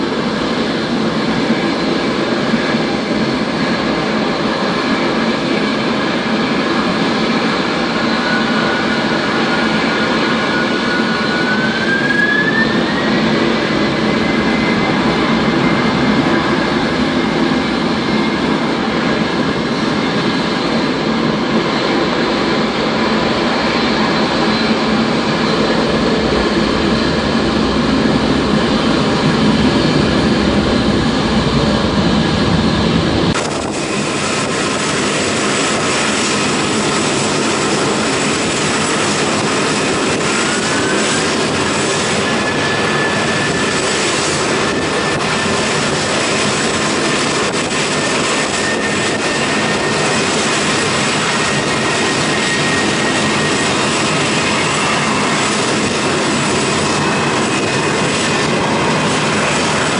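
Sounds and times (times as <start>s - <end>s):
high jet engine whine: 0.0s - 59.9s
jet engines rumbling: 0.0s - 59.9s.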